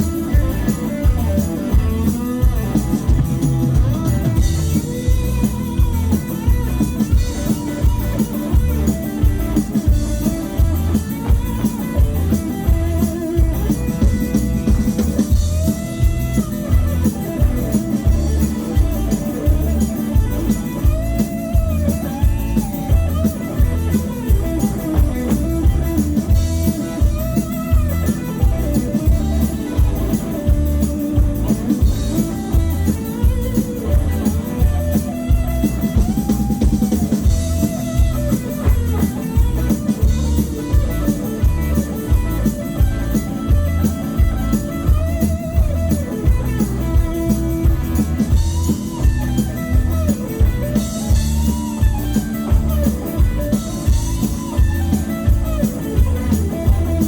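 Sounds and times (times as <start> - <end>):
country rock band playing: 0.0 - 57.0
lead guitar with bending notes: 0.0 - 57.0.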